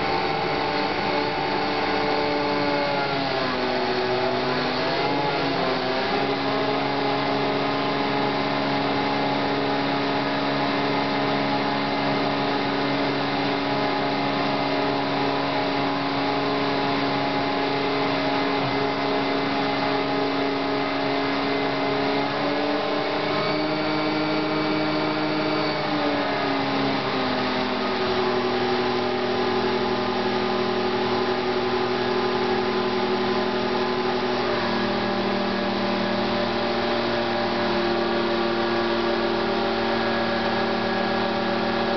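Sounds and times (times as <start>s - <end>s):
pump unit humming: 0.0s - 41.9s.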